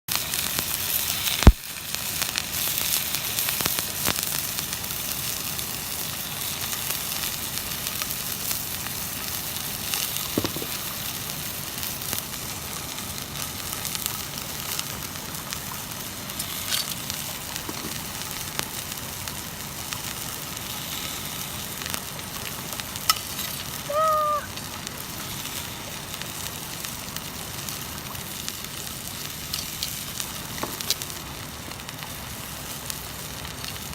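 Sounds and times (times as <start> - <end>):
fire crackling: 0.1 - 33.9
steak sizzling in a skillet: 0.1 - 33.9.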